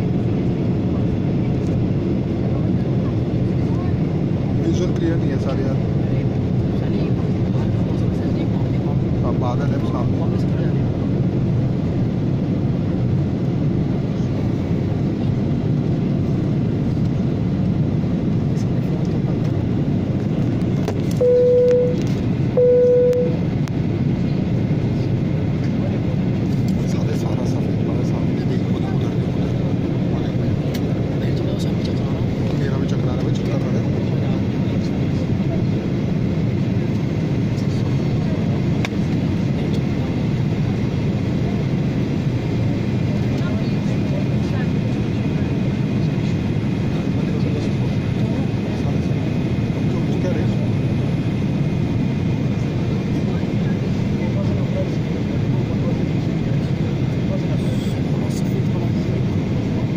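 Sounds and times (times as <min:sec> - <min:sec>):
airliner engines rumbling: 0:00.0 - 0:59.9.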